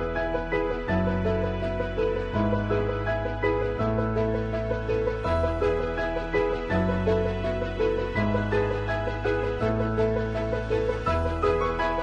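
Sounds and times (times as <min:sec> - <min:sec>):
gentle melody over bass notes: 0:00.0 - 0:12.0.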